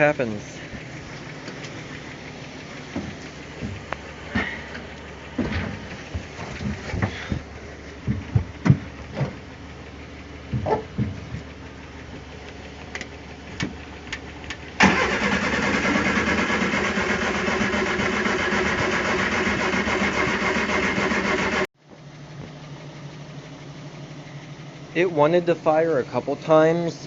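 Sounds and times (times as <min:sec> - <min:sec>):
car engine cranking on starter: 0:00.0 - 0:21.7.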